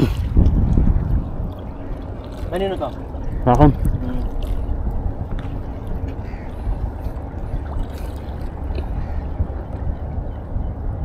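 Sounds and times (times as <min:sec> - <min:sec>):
sea water rumbling along shore: 0:00.0 - 0:11.0.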